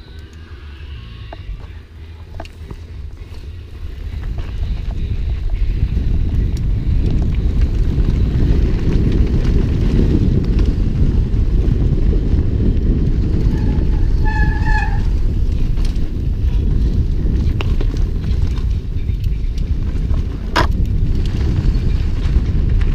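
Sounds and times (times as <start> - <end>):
wind rumbling on microphone: 0.0 - 22.9.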